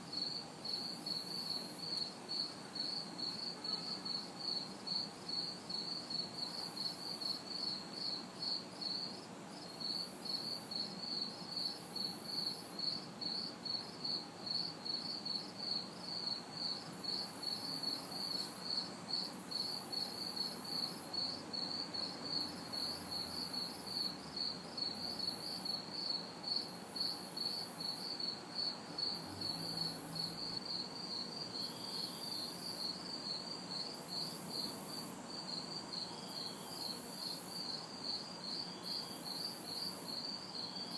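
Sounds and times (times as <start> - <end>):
crickets chirping: 0.0 - 40.9
high insect buzz: 0.1 - 40.9.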